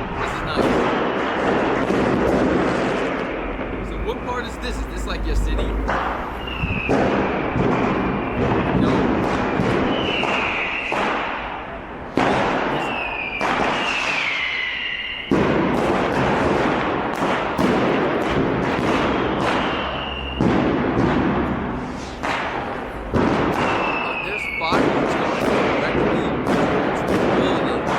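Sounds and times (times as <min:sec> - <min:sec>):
firecracker and rocket bangs: 0:00.0 - 0:27.9
sharp crackling: 0:00.0 - 0:27.9
whistling rockets: 0:00.0 - 0:27.9.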